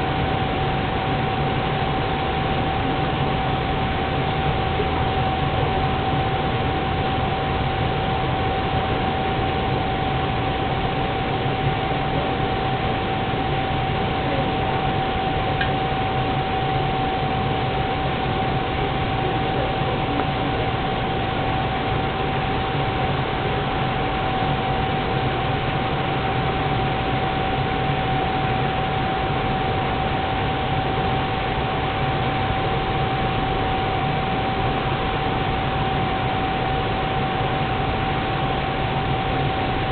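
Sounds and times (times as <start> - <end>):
gas burner roaring: 0.0 - 39.9.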